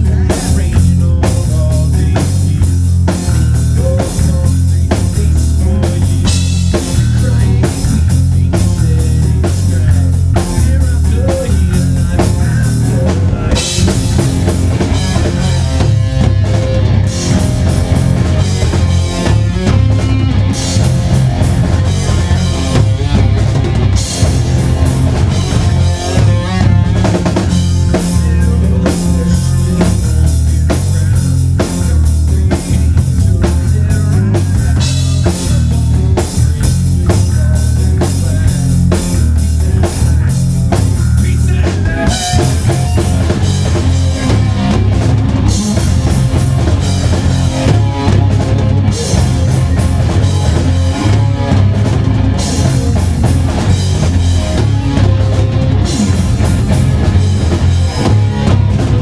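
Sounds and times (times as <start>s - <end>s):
heavy metal band playing: 0.0s - 59.0s
pounding drum kit: 0.0s - 59.0s.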